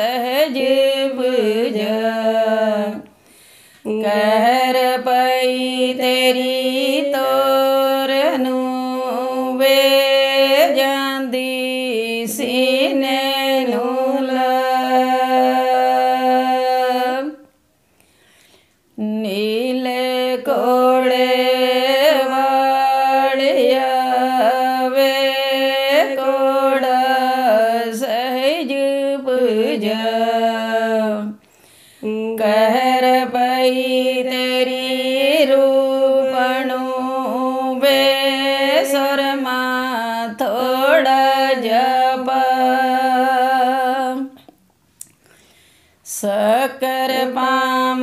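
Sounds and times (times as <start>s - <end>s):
woman singing unaccompanied: 0.0s - 3.2s, 3.8s - 17.5s, 19.0s - 31.4s, 32.0s - 44.5s, 46.0s - 48.0s.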